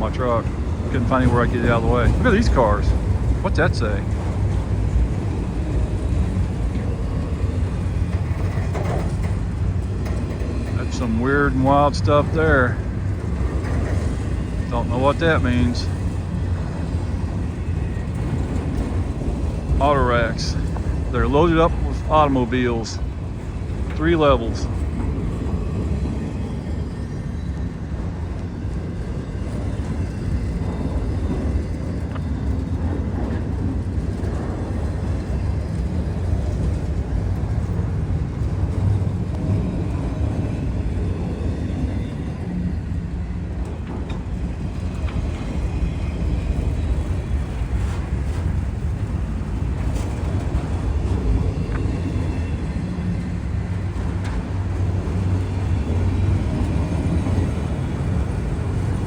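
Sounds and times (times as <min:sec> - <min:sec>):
faint clicks and clacks: 0:00.0 - 0:26.5, 0:27.9 - 0:59.0
train wheels rumbling on rails: 0:00.0 - 0:59.0.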